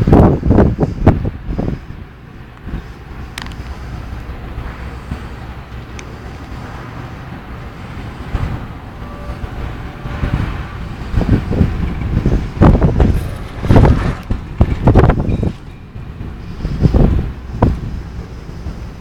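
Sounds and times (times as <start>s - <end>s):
traffic noise: 0.0s - 19.0s
wind buffeting microphone: 0.0s - 19.0s.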